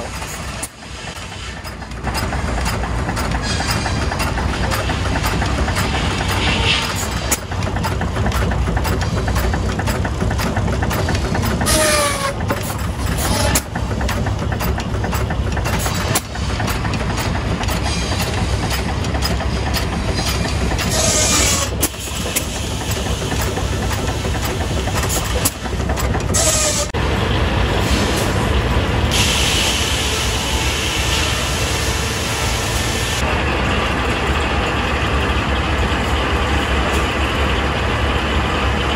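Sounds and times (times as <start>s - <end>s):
sawmill machinery chugging rumble: 0.0s - 38.9s.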